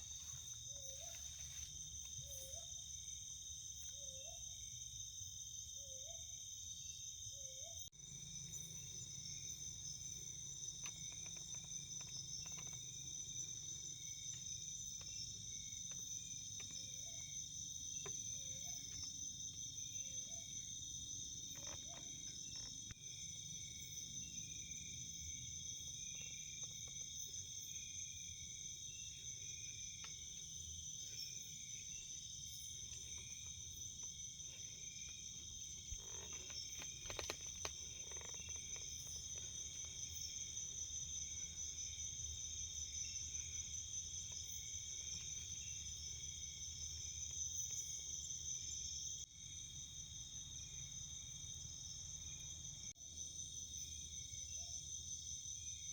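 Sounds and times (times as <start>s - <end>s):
crickets trilling: 0.0s - 55.9s
soft pulsing insect call: 0.0s - 55.9s.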